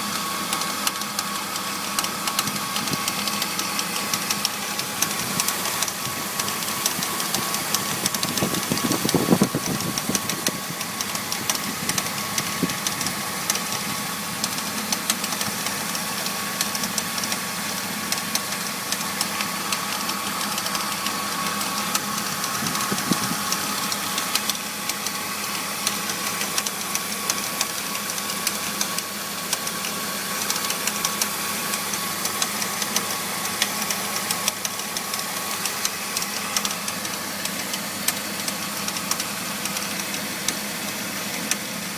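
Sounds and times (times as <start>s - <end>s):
car engine idling with rattle: 0.0s - 41.9s.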